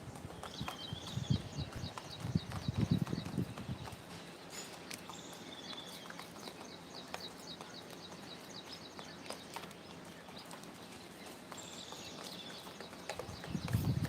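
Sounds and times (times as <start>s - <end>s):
small bird chirping: 0.4s - 14.0s.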